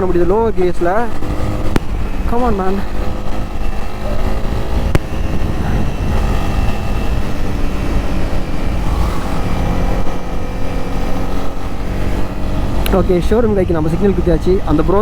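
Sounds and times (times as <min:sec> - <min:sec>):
motorcycle engine running: 0:00.0 - 0:15.0
low rumble: 0:01.0 - 0:15.0.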